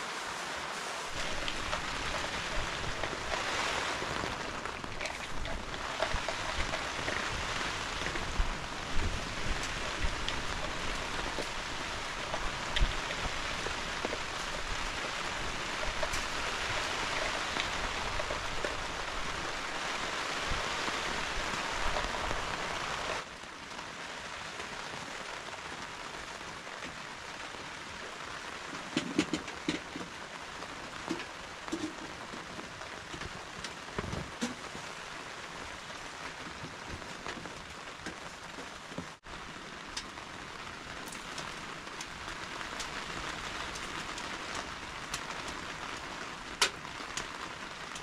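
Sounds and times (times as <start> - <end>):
heavy rain falling: 0.0 - 48.0.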